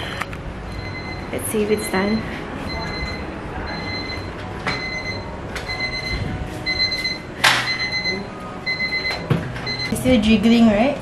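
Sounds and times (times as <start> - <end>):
timer alarm beeping: 0.7 - 10.2.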